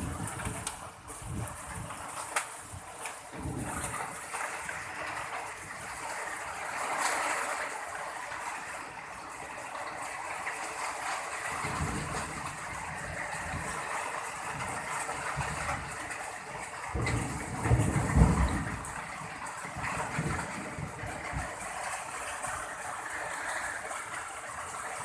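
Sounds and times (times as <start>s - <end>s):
thunder rumble: 0.0s - 9.1s, 11.3s - 25.0s
heavy rain pouring: 0.0s - 25.0s.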